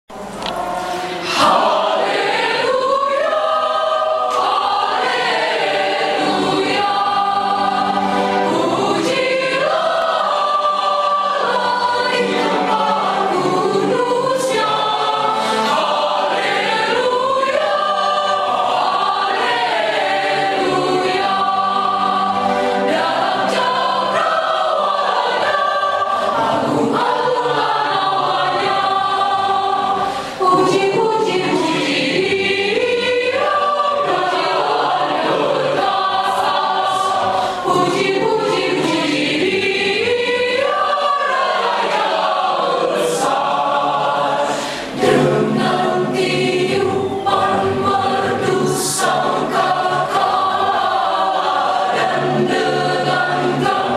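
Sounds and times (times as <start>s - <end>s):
mixed choir singing: 0.1s - 53.9s.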